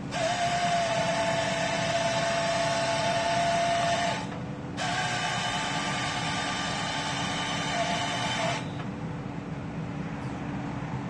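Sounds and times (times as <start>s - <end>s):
hydraulic saw whining: 0.0s - 9.0s
truck engine droning: 0.0s - 11.0s.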